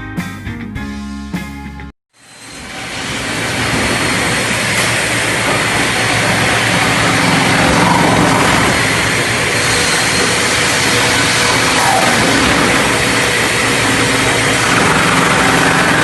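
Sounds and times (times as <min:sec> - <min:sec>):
wood-processing machinery roaring: 0:02.2 - 0:16.0.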